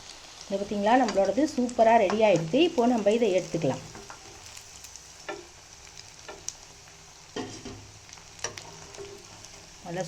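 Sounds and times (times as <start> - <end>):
cutlets sizzling in a pan: 0.0 - 10.0.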